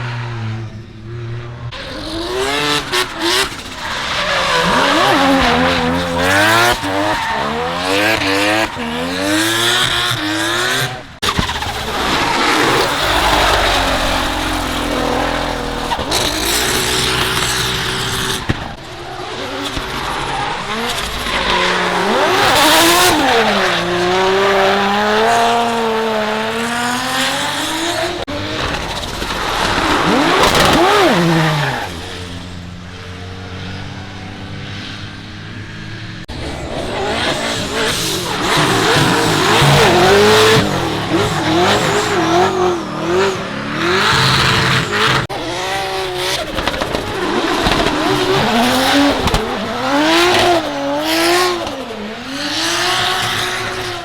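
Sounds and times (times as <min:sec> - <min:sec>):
car engines at high revs: 0:00.0 - 0:54.0.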